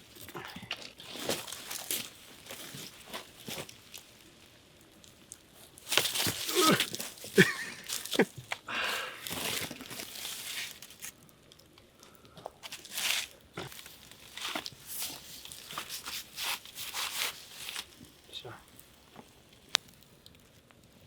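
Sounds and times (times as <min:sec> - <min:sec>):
crinkling and crunching handling: 0:00.0 - 0:21.0.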